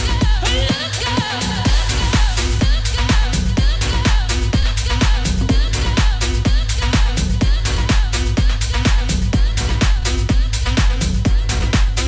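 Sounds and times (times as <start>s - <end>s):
electronic dance music: 0.0s - 12.0s
kick drum: 0.0s - 12.0s.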